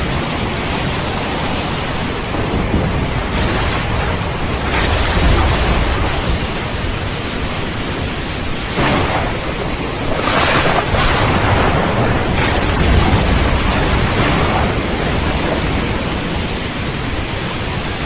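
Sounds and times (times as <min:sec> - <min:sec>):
heavy rain: 0:00.0 - 0:18.0
thunder rumbling: 0:00.0 - 0:18.0.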